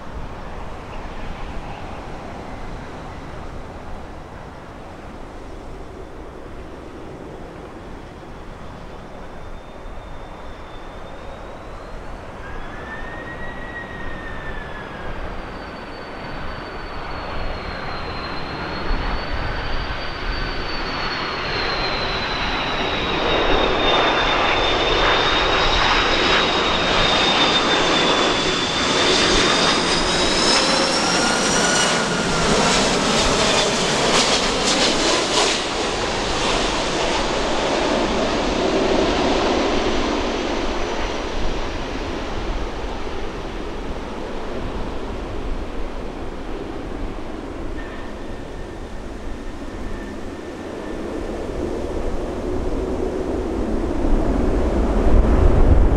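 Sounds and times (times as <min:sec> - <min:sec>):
jet airliner engines whining: 0:00.0 - 0:55.9.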